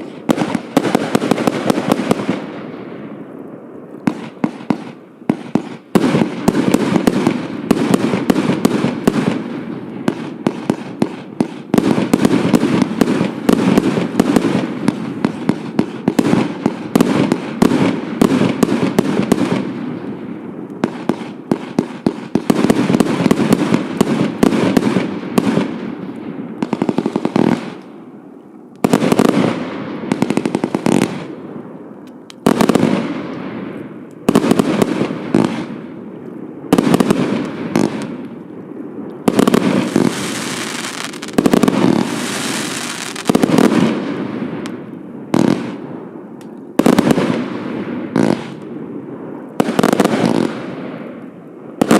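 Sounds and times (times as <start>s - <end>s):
fireworks bursting: 0.0s - 51.9s.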